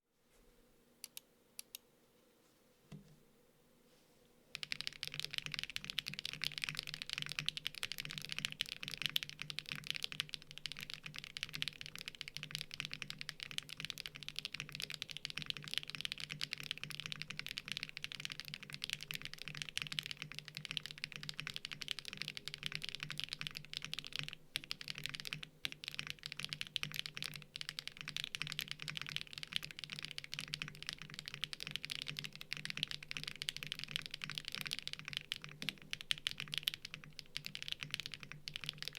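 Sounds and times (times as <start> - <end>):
fast mechanical keyboard typing: 4.5 - 38.9.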